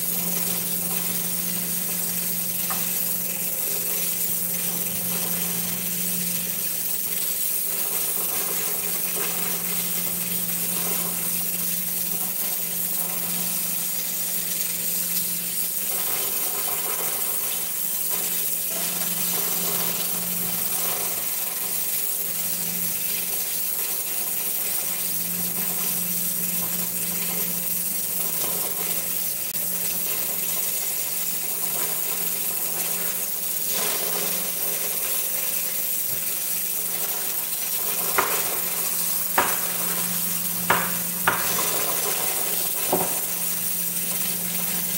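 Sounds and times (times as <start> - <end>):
pressure cooker hissing: 0.0 - 44.9.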